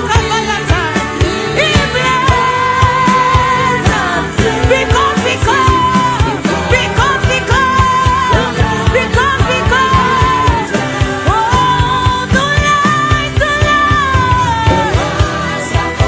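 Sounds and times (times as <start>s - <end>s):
steady drum beat: 0.0s - 16.0s
sustained bass: 0.0s - 16.0s.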